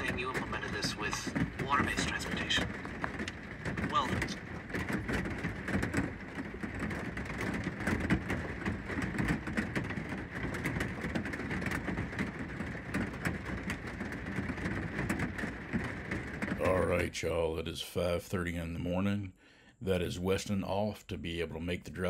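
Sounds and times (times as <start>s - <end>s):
rain on a vehicle roof: 0.0s - 19.0s, 19.9s - 22.0s.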